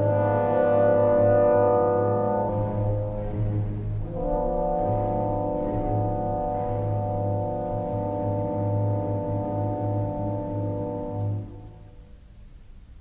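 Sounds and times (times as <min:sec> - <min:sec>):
brass sustained chords: 0:00.0 - 0:12.4
low pulsing rumble: 0:00.0 - 0:13.0.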